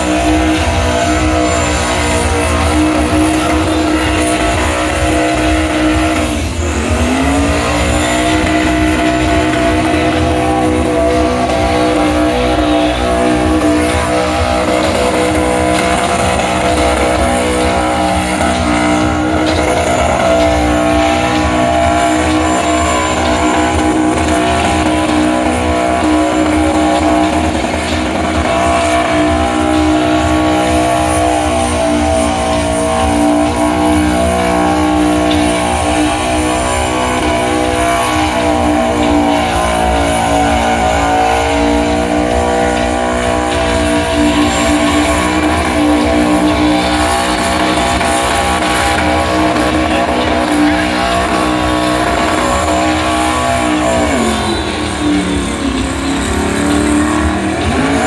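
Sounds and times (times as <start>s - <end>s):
car engine at high revs: 0.0s - 58.0s
tyres spinning: 0.0s - 58.0s.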